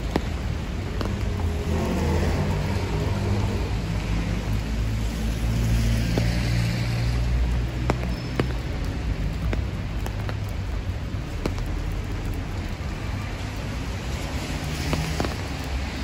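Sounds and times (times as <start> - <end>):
steady rain: 0.0 - 16.0
tyres hissing on wet road: 0.0 - 16.0
vehicle engine rumble: 0.0 - 16.0.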